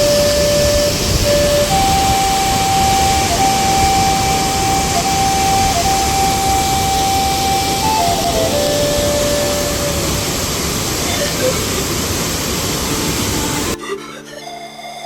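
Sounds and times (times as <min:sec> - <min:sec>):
water roaring over a dam: 0:00.0 - 0:13.8
thin steady whine: 0:00.0 - 0:15.0.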